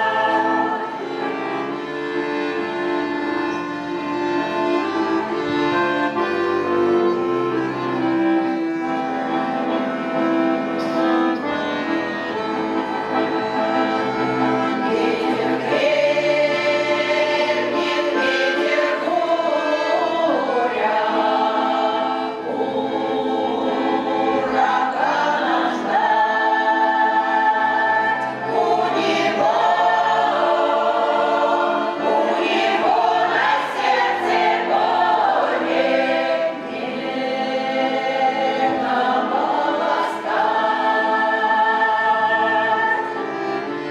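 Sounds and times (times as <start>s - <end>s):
folk choir singing: 0.0s - 43.9s
instrumental accompaniment: 0.0s - 43.9s.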